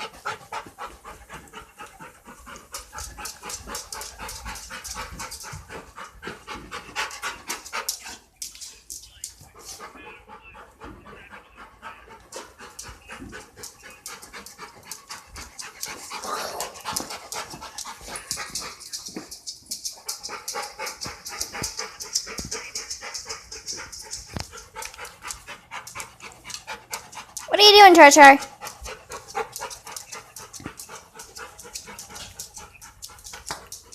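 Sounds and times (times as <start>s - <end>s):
dog panting: 0.0s - 33.9s.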